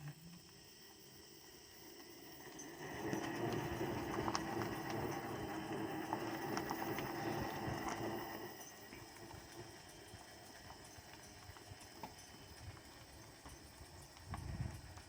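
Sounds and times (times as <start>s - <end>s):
electric motor humming under load: 0.0s - 15.0s.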